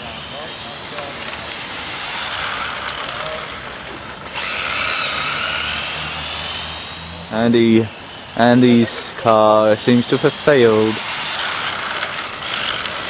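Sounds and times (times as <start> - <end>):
toy car motors whining: 0.0 - 13.0.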